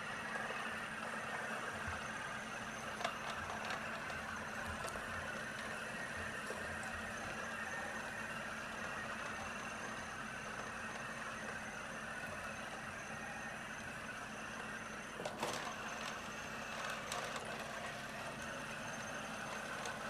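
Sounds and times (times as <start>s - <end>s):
robot vacuum whirring: 0.0s - 20.0s.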